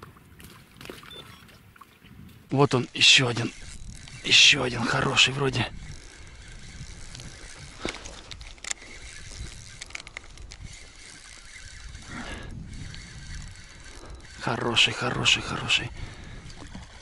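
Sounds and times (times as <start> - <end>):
fishing reel clicking: 2.5 - 17.0.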